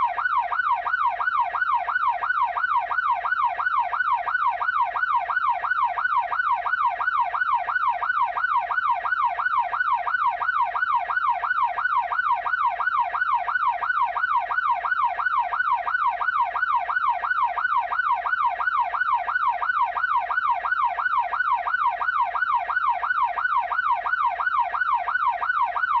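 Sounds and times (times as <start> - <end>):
ambulance siren yelping: 0.0 - 26.0.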